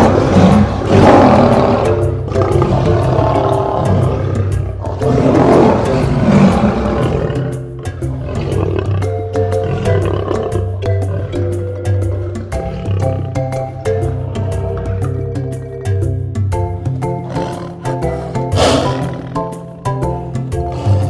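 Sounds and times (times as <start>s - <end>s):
lion roaring: 0.0s - 15.9s, 17.2s - 19.6s, 20.7s - 21.0s
background music with steady beat: 0.0s - 21.0s.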